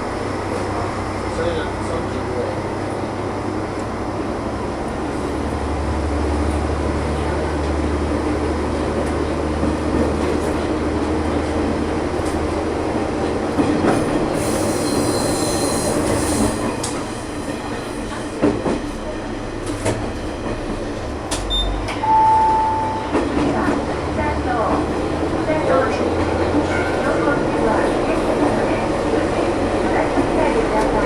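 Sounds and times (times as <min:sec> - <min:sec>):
railcar engine drone: 0:00.0 - 0:31.0.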